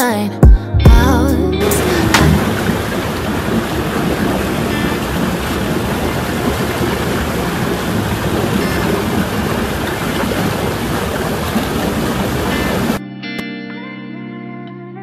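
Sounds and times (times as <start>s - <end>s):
rushing water: 1.0s - 13.0s.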